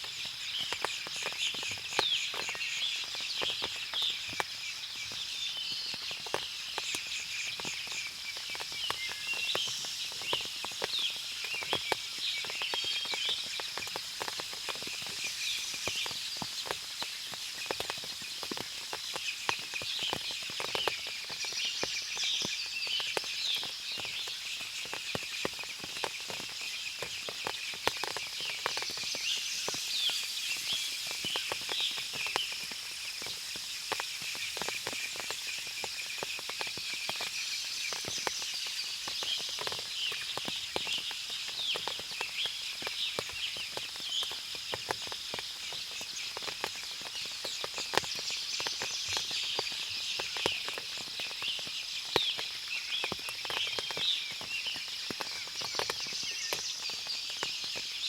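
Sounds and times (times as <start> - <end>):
small birds twittering: 0.0 - 58.0
water dripping: 0.0 - 58.0.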